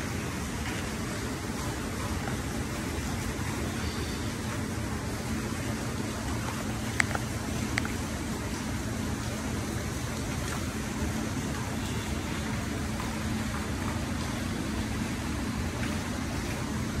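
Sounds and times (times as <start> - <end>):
constant low tone: 0.0 - 17.0
low hiss and hum: 0.0 - 17.0.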